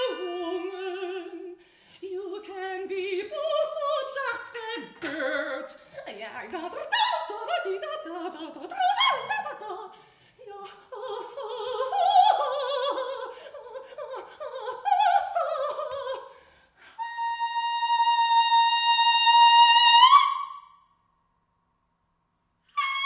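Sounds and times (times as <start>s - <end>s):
woman singing opera: 0.0s - 20.8s, 22.7s - 23.0s.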